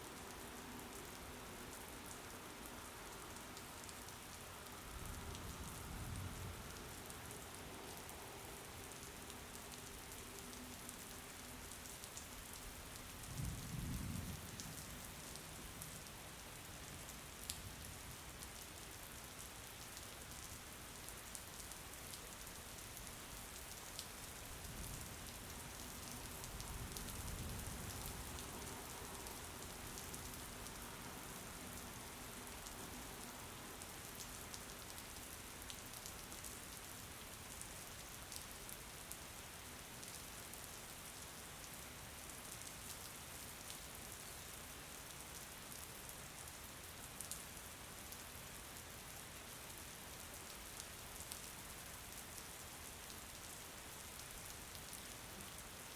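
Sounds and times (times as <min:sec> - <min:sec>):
rain hiss: 0:00.0 - 0:55.9.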